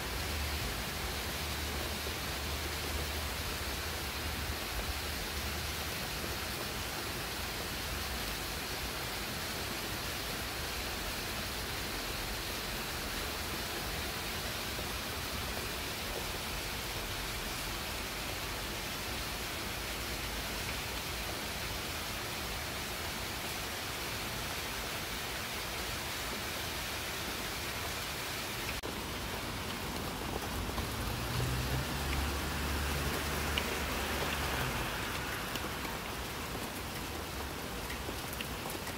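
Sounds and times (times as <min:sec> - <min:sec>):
rain on leafy shrubs: 0:00.0 - 0:38.9.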